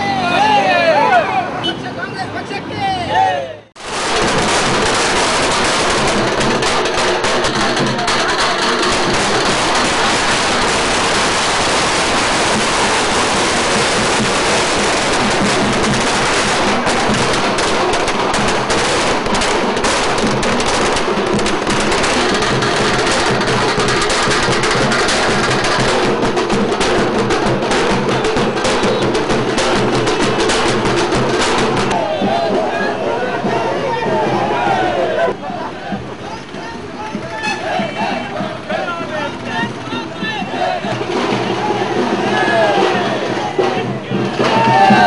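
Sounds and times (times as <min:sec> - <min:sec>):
fast continuous drumming: 0:03.8 - 0:45.0.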